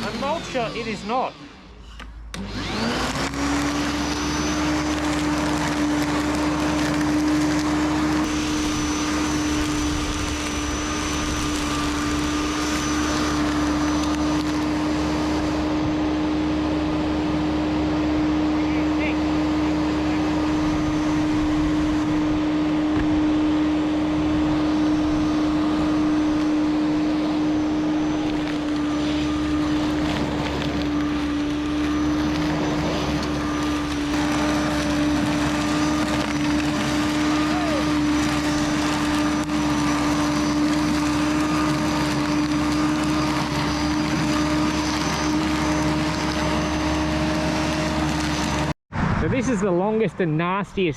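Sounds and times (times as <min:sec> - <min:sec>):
electric lawn mower cutting grass: 0:00.0 - 0:48.8.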